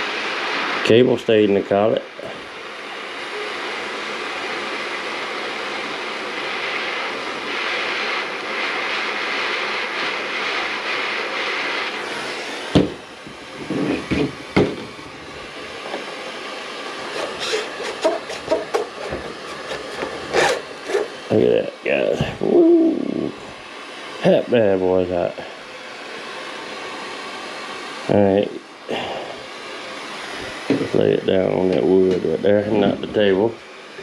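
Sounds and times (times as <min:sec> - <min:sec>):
heating tool hissing: 0:00.0 - 0:34.0.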